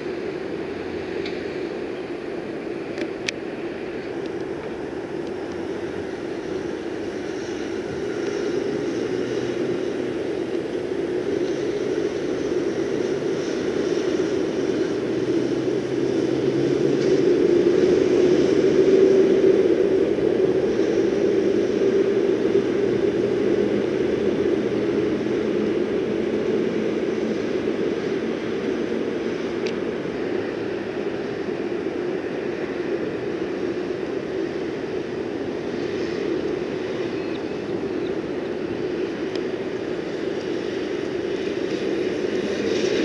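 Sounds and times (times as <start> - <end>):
heavy road traffic passing: 0.0 - 43.0.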